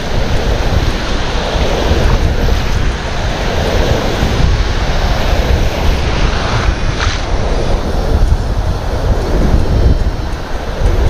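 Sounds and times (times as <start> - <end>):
surf breaking and foaming: 0.0 - 11.0
wind rumbling on microphone: 0.0 - 11.0.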